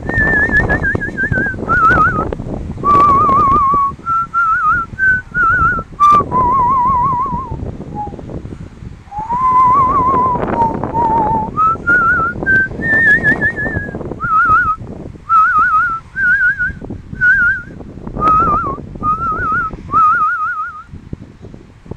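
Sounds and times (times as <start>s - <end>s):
person whistling a melody: 0.0s - 8.2s, 9.1s - 20.9s
wind rumble on microphone: 0.0s - 21.9s.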